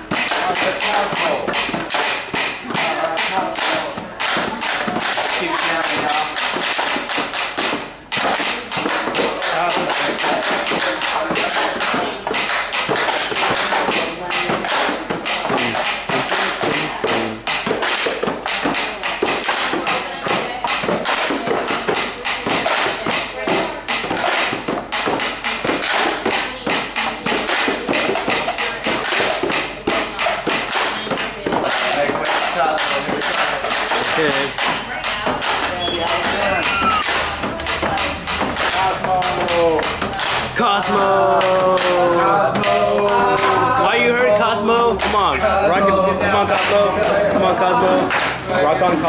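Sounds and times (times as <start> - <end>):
cardboard boxes tapped in a beat: 0.0 - 49.0.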